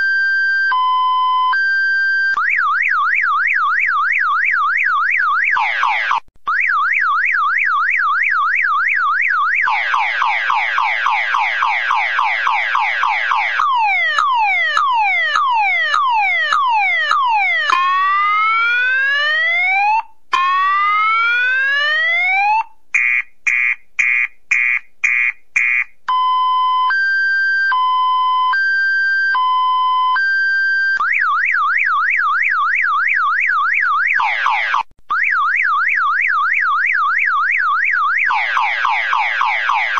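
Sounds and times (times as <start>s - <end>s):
car alarm siren: 0.0s - 39.9s.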